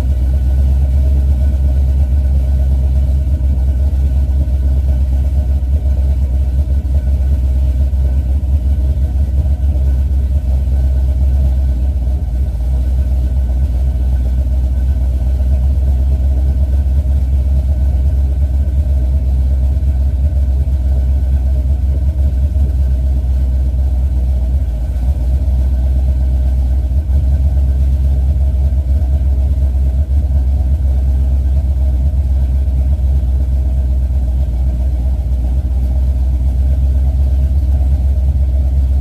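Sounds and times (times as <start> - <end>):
engine idling with choppy lope: 0.0 - 39.0.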